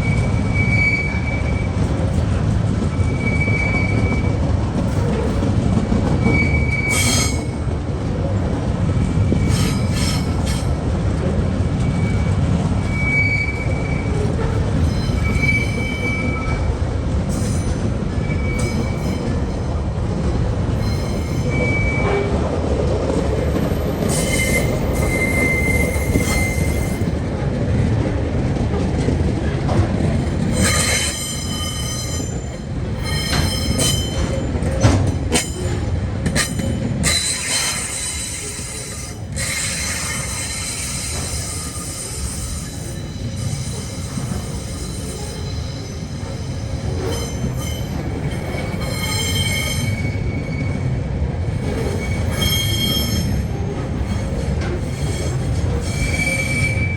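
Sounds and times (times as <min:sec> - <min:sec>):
train wheels squealing: 0:00.0 - 0:02.1, 0:02.8 - 0:05.5, 0:06.2 - 0:07.6, 0:09.2 - 0:10.7, 0:11.8 - 0:19.8, 0:20.7 - 0:22.4, 0:23.5 - 0:27.2, 0:30.4 - 0:56.9
freight train rumbling past: 0:00.0 - 0:56.9.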